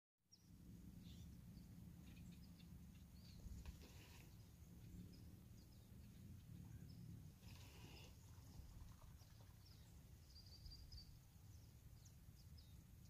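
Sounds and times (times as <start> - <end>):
faint bird chirps: 0.3 - 13.0
faint low outdoor rumble: 0.3 - 13.0.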